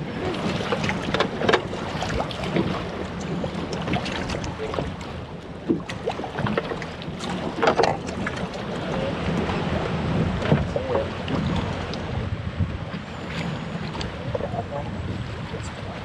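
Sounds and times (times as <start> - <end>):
water lapping at boat: 0.0 - 16.0
wind buffeting microphone: 0.0 - 16.0.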